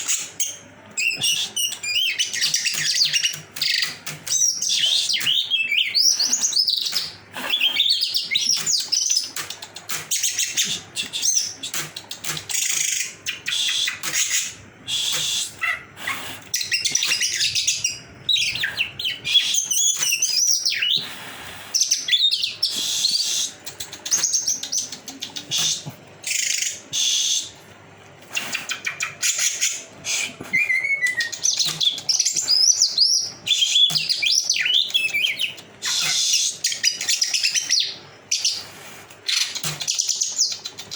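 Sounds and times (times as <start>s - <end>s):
bird singing: 0.0s - 15.9s, 16.5s - 21.0s, 21.8s - 27.6s, 28.4s - 38.6s.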